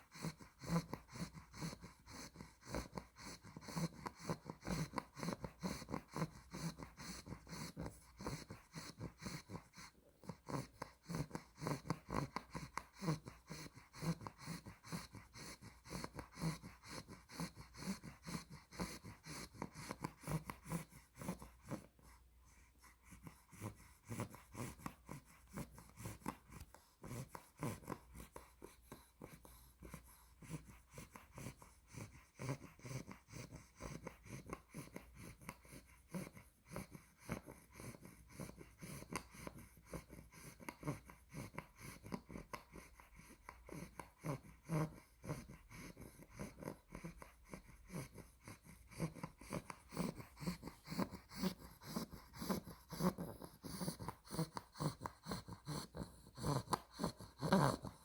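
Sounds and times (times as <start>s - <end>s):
puppy snoring: 0.0s - 58.0s.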